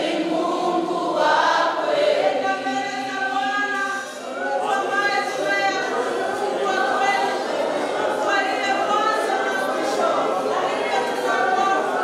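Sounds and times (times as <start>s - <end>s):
choir singing sustained notes: 0.0s - 3.4s, 4.6s - 12.0s.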